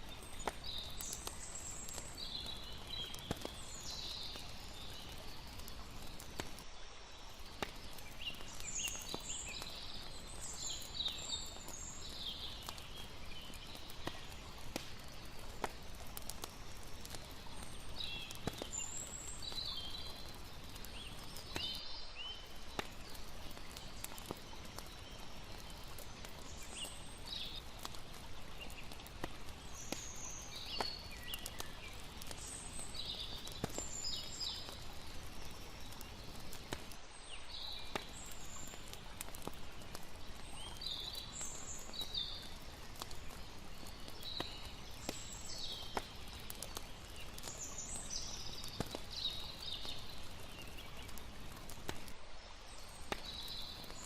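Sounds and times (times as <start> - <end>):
campfire crackling and popping: 0.0 - 54.0
rushing water: 0.0 - 54.0.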